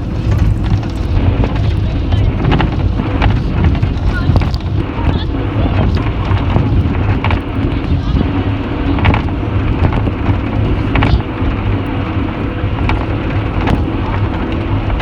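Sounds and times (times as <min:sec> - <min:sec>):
knocks and rattles: 0:00.0 - 0:15.0
vehicle low rumble: 0:00.0 - 0:15.0.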